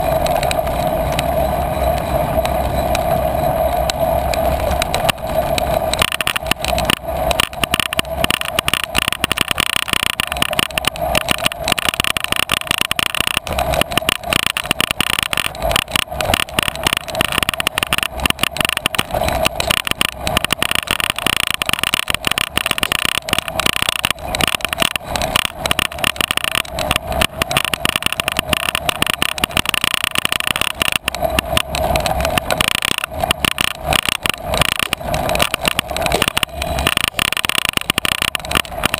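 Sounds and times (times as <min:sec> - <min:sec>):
bicycle tyre noise on dirt: 0:00.0 - 0:38.9
camera rattling and clattering: 0:00.0 - 0:38.9.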